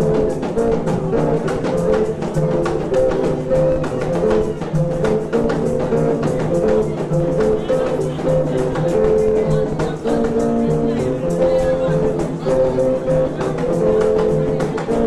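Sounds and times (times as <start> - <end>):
dance music with drums: 0.0 - 15.0.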